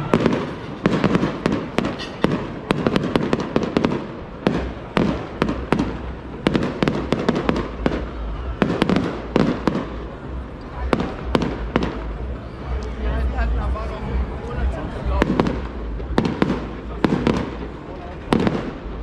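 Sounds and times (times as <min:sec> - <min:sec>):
fireworks bursting with echoing rumble: 0:00.0 - 0:19.0.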